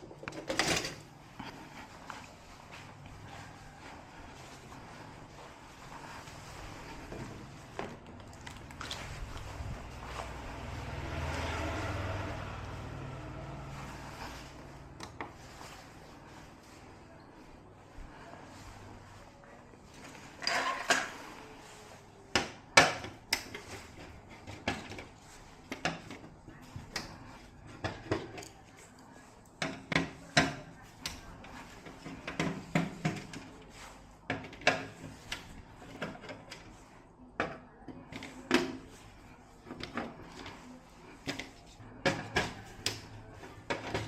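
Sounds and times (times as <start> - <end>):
scraping or rustling: 0.0 - 37.2, 38.0 - 44.0.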